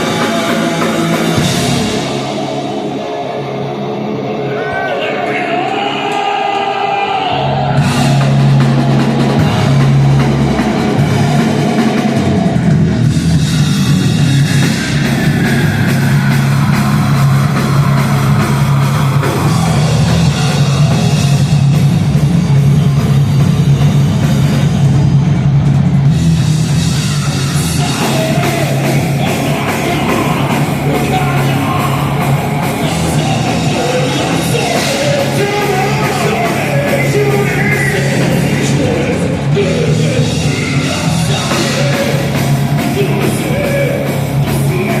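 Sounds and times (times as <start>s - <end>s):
loud live rock band: 0.0s - 45.0s.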